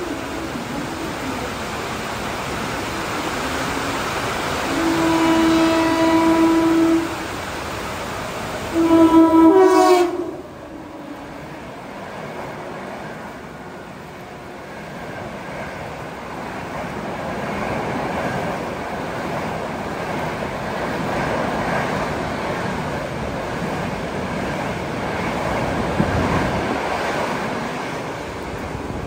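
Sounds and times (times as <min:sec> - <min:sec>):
electric train rumbling: 0:00.0 - 0:29.0
heavy rain on metal roofs: 0:00.0 - 0:29.0.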